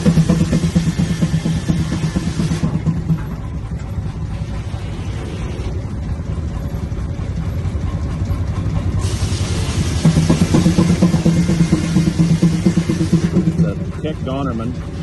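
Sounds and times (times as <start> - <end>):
engine running sawmill: 0.0 - 15.0.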